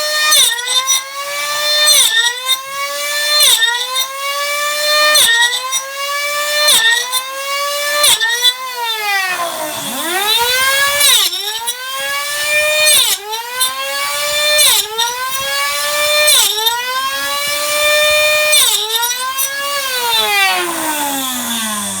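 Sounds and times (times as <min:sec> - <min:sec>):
table saw motor whining: 0:00.0 - 0:22.0.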